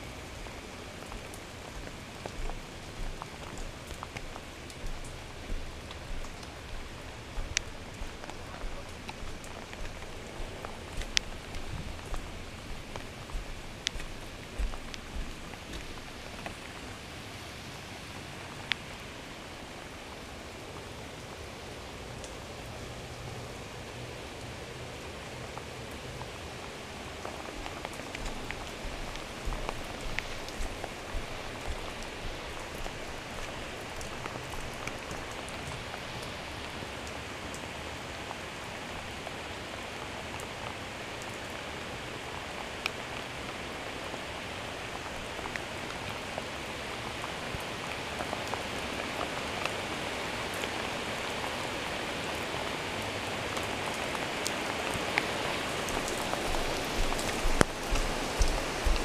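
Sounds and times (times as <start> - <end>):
sharp ticks of raindrops: 0.0 - 59.0
steady rain falling: 0.0 - 59.0.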